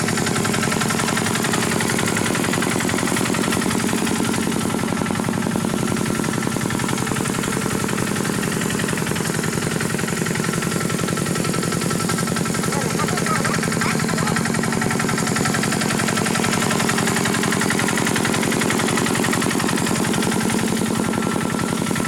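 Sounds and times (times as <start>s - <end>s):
tractor diesel engine chugging: 0.0s - 22.0s.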